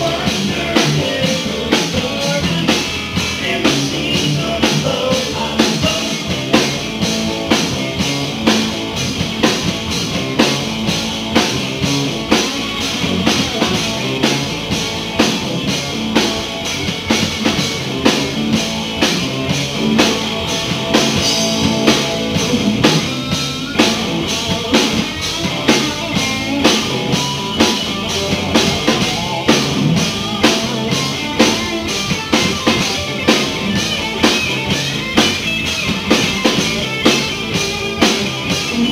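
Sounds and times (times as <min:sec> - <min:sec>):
blues-rock band playing: 0:00.0 - 0:38.9
drum kit beat: 0:00.0 - 0:38.9.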